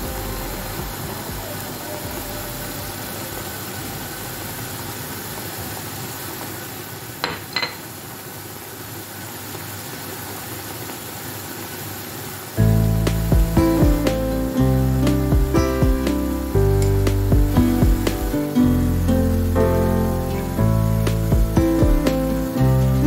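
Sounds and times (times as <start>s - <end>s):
vegetables sizzling in a frying pan: 0.0s - 13.3s, 14.0s - 23.0s.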